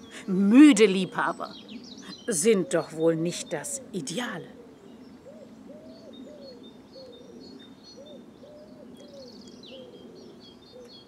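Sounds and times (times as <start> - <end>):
songbirds chirping and trilling: 0.0 - 11.0
dove cooing: 2.0 - 11.0.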